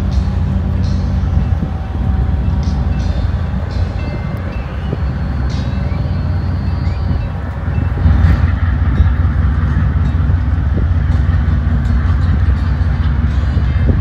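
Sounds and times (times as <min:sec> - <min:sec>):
ship passing with deep rumble: 0:00.0 - 0:14.0.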